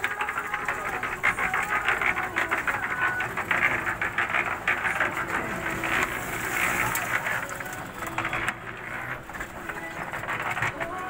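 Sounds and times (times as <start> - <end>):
concrete mixer drum clattering: 0.0 - 11.0.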